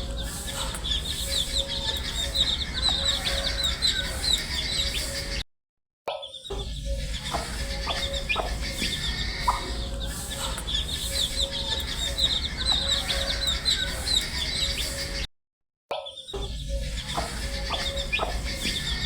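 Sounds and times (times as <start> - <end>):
baby chicks peeping: 0.0 - 5.4, 6.4 - 15.2, 16.3 - 19.0.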